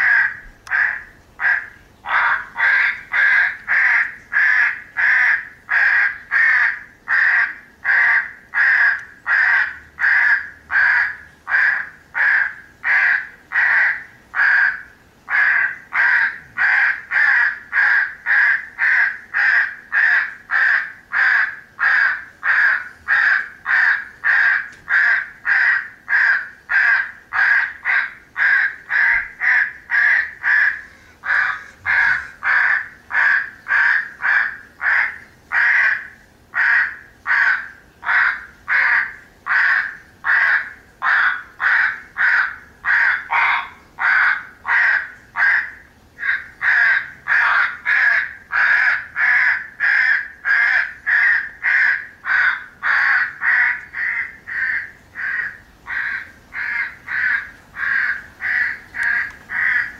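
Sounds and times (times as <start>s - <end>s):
crows cawing: 0.0s - 59.9s.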